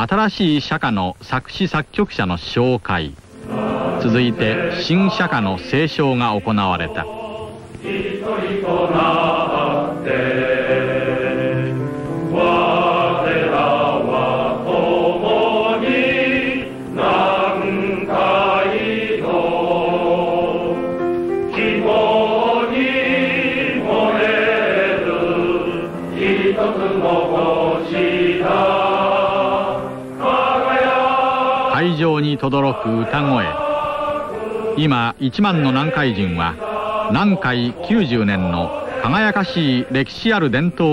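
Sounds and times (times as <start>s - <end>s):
men's choir singing in unison: 3.4s - 40.9s.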